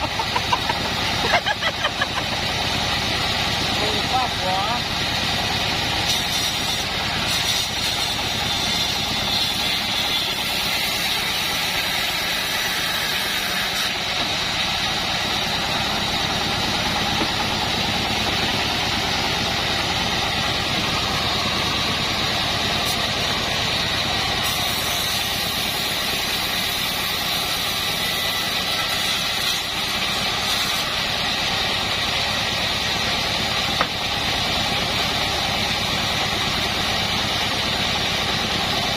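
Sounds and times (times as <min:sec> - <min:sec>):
band sawmill motor whining: 0:00.0 - 0:38.9
saw cutting wood beams: 0:00.0 - 0:38.9.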